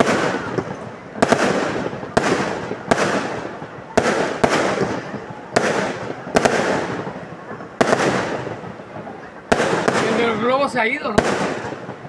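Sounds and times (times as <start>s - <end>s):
fireworks bangs with crackle: 0.0s - 12.0s.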